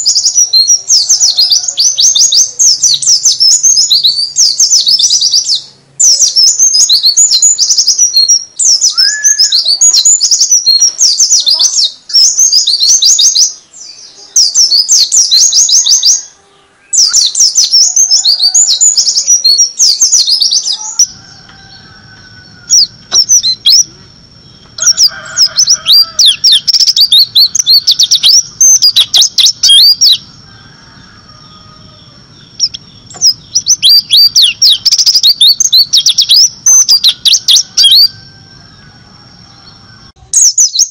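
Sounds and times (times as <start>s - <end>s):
bird singing rapid high trills: 0.0s - 40.9s.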